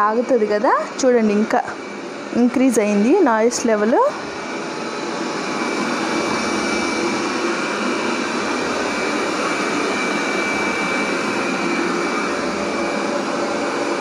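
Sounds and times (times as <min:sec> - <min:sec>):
robot vacuum cleaner running: 0:00.0 - 0:14.0.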